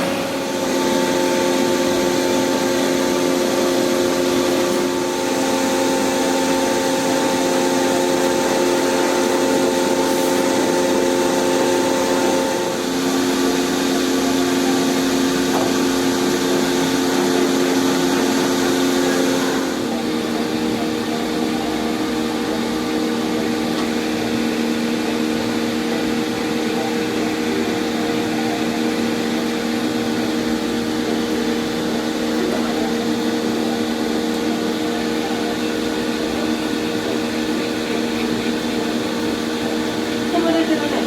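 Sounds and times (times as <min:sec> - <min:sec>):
hair dryer blowing: 0:00.0 - 0:41.0.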